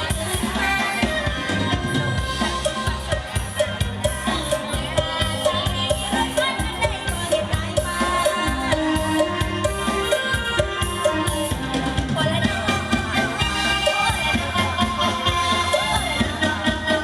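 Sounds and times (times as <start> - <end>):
live band music: 0.0 - 17.0
steady drum beat: 0.0 - 17.0.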